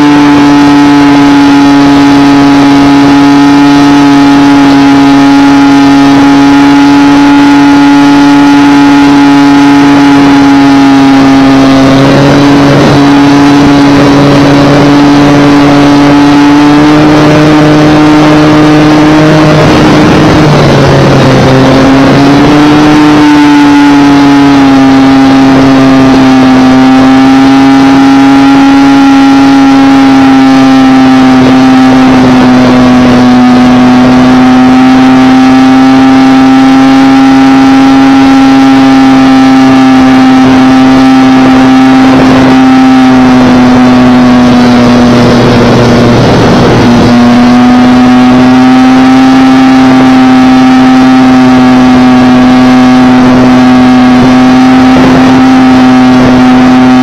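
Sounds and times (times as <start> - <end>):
model airplane propeller drone: 0.0 - 57.0
wind noise: 0.0 - 57.0.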